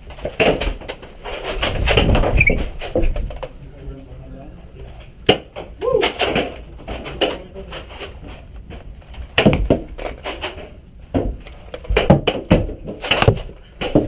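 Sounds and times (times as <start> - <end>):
steady low background noise: 0.0 - 14.0.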